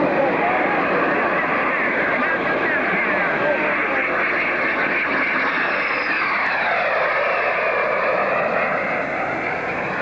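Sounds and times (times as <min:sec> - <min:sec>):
aircraft engines passing overhead: 0:00.0 - 0:10.0.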